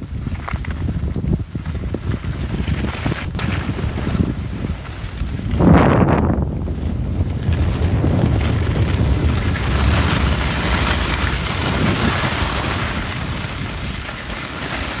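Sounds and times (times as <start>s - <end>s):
wind buffeting microphone: 0.0s - 15.0s
skis scraping on snow: 0.1s - 15.0s.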